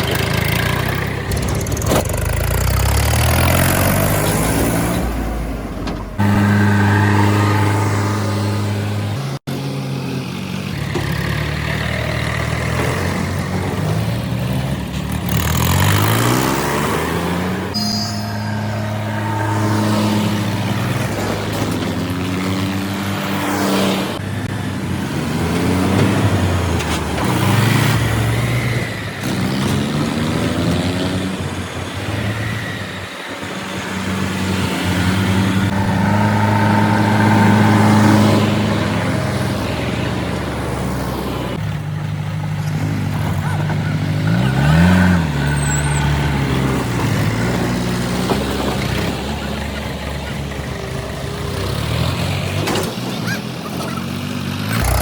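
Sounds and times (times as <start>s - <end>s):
heavy diesel engines revving: 0.0s - 55.0s.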